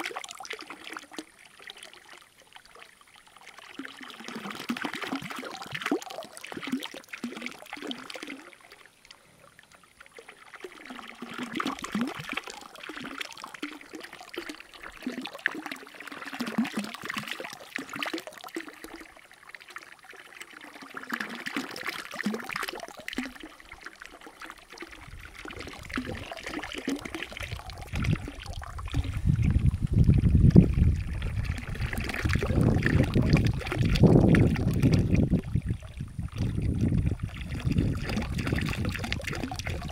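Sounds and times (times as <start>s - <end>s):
water pouring into trough: 0.0s - 8.9s, 9.6s - 39.9s.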